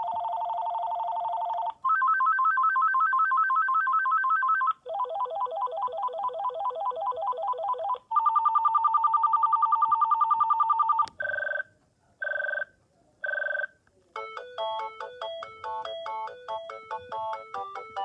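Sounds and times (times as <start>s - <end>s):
electronic phone ringtones: 0.0s - 18.0s.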